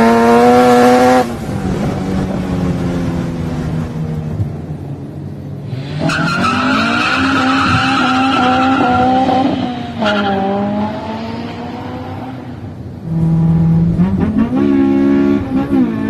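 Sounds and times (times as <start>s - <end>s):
car engine accelerating hard: 0.0s - 4.9s, 5.6s - 16.0s.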